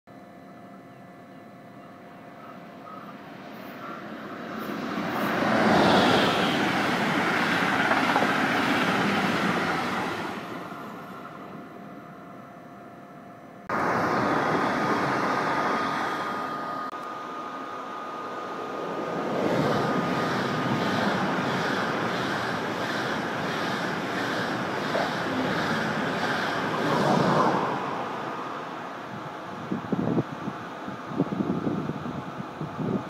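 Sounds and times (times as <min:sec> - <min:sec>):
electric train whine: 0:00.1 - 0:33.0
electric train passing: 0:01.0 - 0:33.0.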